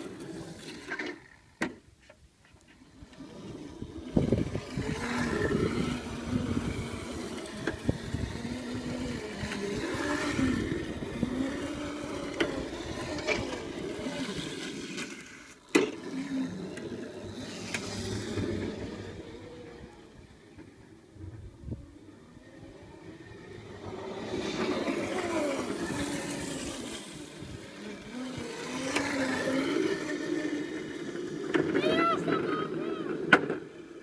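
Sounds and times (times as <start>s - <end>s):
small wheels rolling and scraping: 0.0s - 34.0s
electric motor whine: 2.8s - 34.0s.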